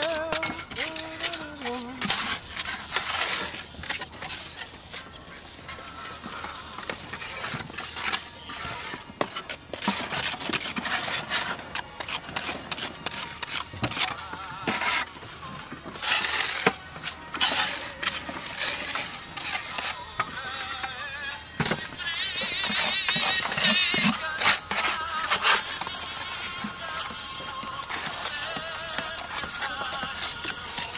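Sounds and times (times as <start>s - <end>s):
trowel scraping and tapping mortar: 0.0s - 30.9s.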